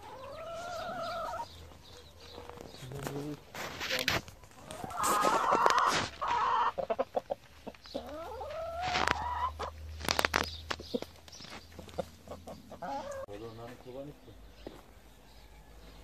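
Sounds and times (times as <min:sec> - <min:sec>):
chickens clucking and calling: 0:00.0 - 0:16.0.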